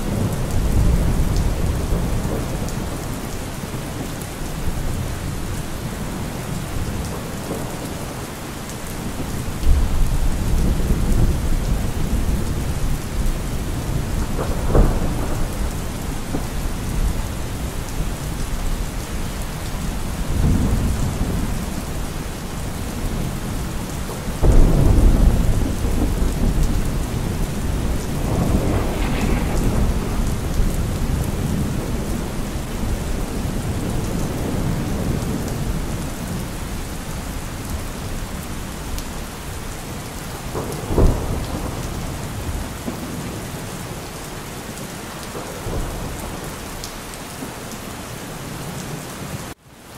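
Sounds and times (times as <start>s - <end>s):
rolling thunder: 0.0s - 8.2s, 9.0s - 43.9s
steady rain: 0.0s - 49.9s.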